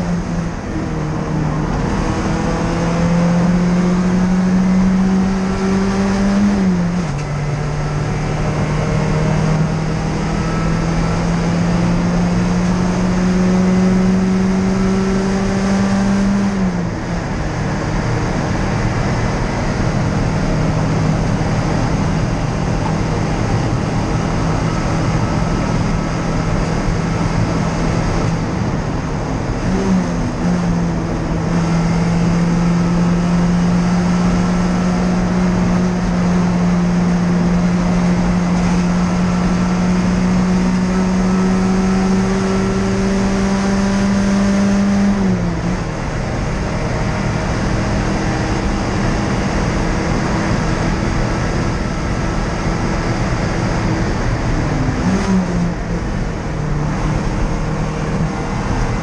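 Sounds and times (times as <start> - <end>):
race car engine under load: 0.0 - 59.0
road and wind noise: 0.0 - 59.0.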